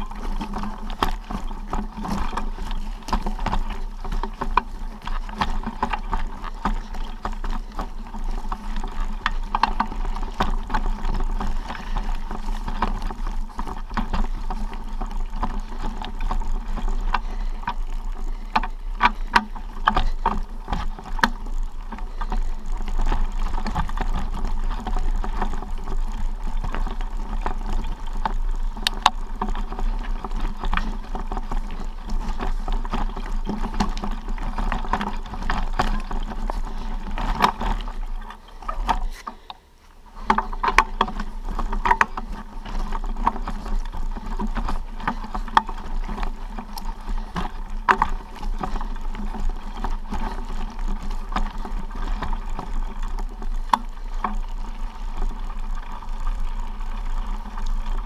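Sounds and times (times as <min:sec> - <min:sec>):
footsteps on stony trail: 0:00.0 - 0:58.0.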